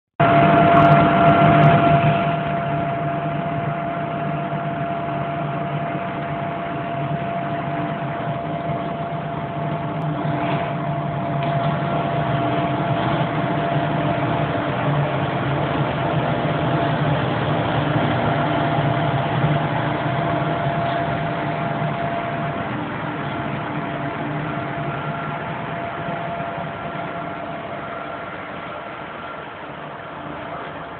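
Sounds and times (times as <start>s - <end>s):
electrical hum: 0.2s - 30.9s
train running gear rumble: 0.2s - 30.9s.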